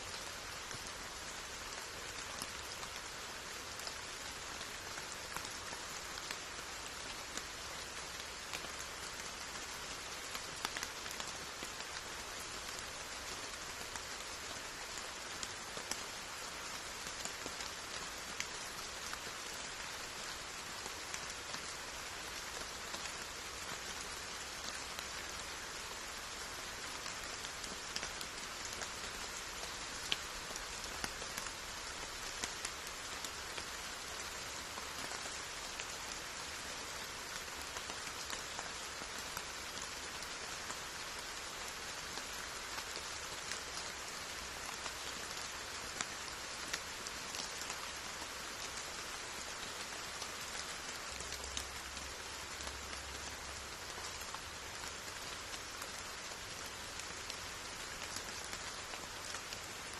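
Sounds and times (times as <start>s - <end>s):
steady rain falling: 0.0s - 59.9s
raindrops ticking close by: 0.1s - 59.9s.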